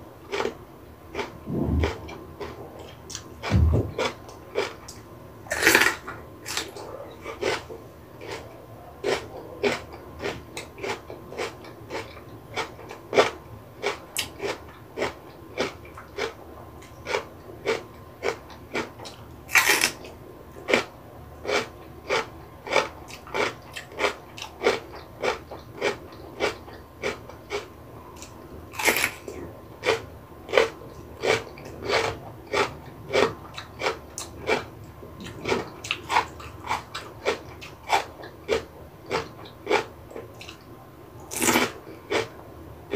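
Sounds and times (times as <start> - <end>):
pepper being chewed crunchily: 0.2 - 42.9.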